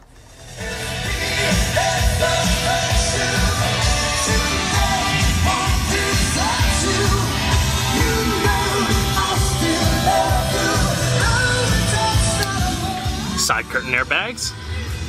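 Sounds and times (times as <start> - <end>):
song with singer and beat: 0.2 - 15.0.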